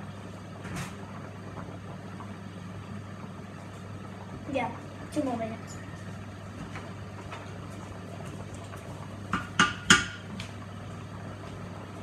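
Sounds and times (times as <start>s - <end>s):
rice boiling in a pan: 0.0s - 12.0s.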